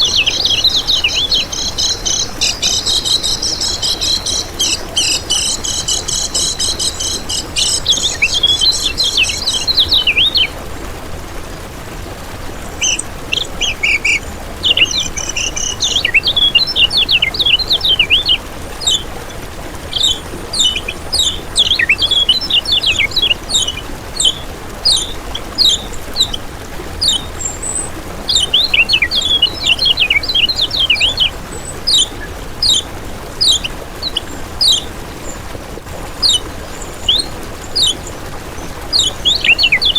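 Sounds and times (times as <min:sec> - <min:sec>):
bird chirping: 0:00.0 - 0:10.5, 0:12.6 - 0:35.4, 0:36.1 - 0:39.9.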